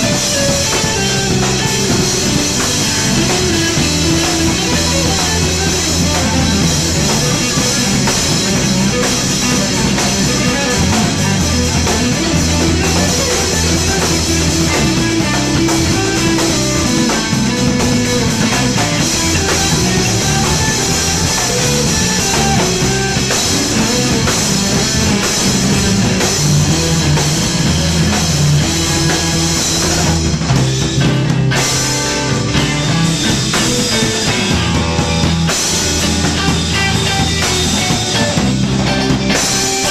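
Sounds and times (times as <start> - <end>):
bass guitar: 0.0 - 39.9
drum kit with cymbals: 0.0 - 39.9
electric guitar: 0.0 - 39.9.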